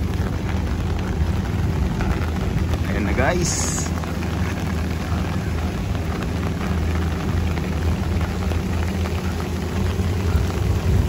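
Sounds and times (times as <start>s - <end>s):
rain falling: 0.0s - 11.0s
steady low rumble: 0.0s - 11.0s.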